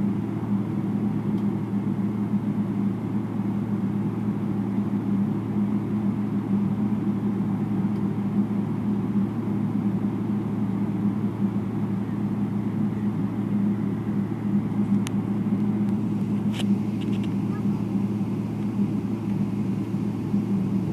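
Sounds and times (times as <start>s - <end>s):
airliner cabin rumble: 0.0s - 20.9s.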